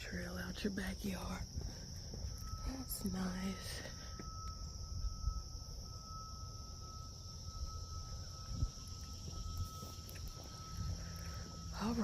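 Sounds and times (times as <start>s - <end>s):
crickets and insects droning: 0.0s - 12.0s
thin steady tone: 0.0s - 12.0s.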